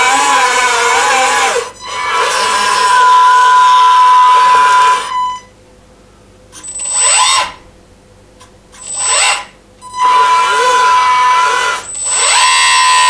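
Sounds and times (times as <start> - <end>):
electric hydraulic pump whining: 0.0 - 5.5, 6.5 - 7.6, 8.7 - 13.0.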